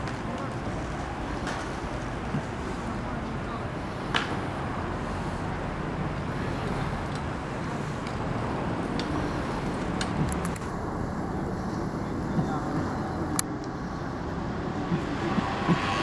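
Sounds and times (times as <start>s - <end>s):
city traffic: 0.0s - 16.0s.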